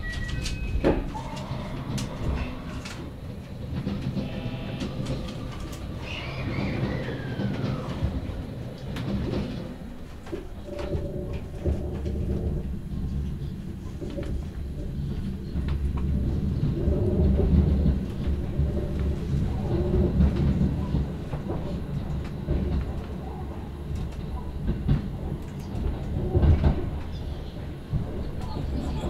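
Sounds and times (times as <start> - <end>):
train rumble inside carriage: 0.0 - 29.0
wheels clicking over rail joints: 0.0 - 29.0.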